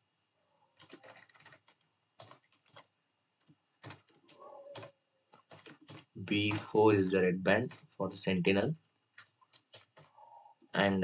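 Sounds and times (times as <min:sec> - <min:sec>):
faint keyboard typing: 0:00.7 - 0:10.9.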